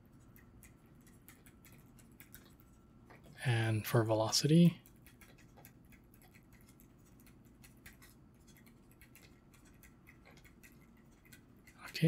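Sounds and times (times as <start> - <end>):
stylus writing on tablet screen: 0.0 - 12.0.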